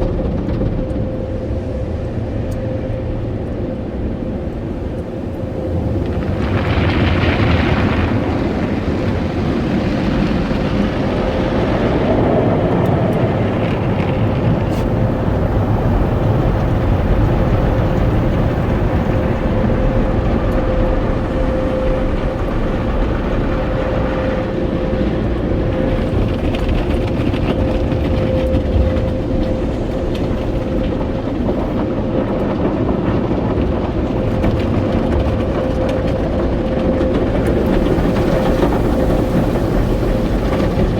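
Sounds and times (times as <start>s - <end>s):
car wash machinery rumbling: 0.0s - 40.9s
constant whine: 0.0s - 40.9s.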